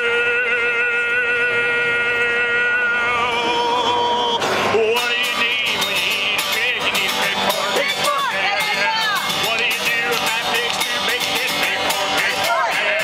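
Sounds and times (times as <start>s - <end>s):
man singing: 0.0s - 13.0s
strummed acoustic guitar: 0.0s - 13.0s.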